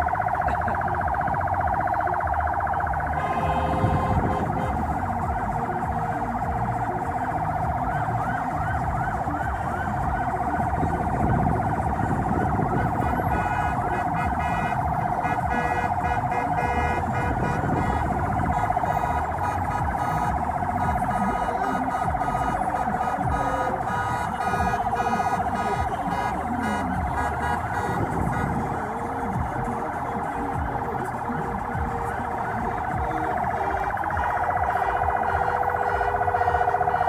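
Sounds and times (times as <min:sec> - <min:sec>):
electronic sirens yelping: 0:00.0 - 0:37.0
rumble of car convoy: 0:00.0 - 0:37.0.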